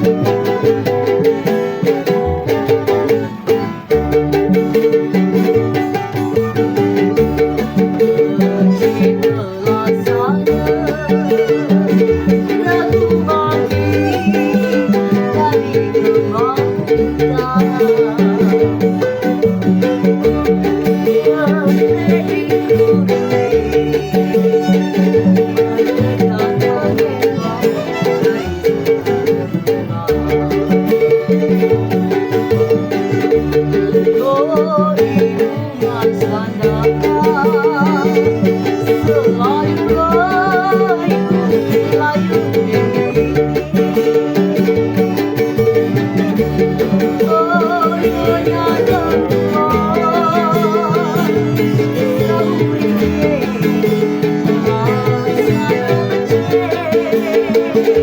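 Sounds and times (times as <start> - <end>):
band playing pop song: 0.0 - 58.0.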